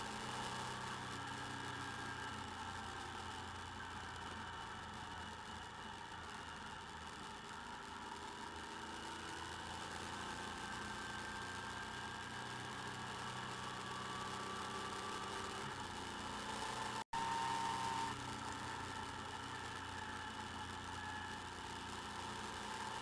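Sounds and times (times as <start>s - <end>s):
motorcycle engine running: 0.0s - 23.0s
whining tones: 0.0s - 23.0s.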